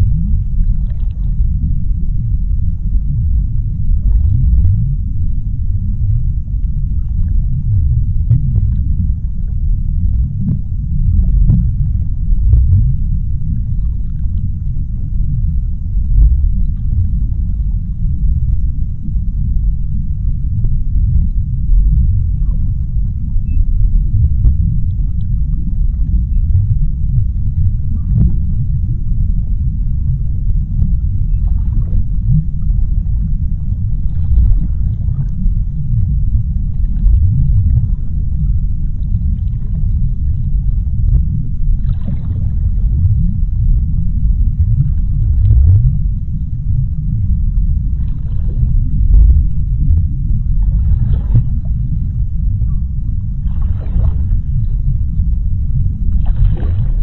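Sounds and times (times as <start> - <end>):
deep underwater rumble: 0.0 - 57.0.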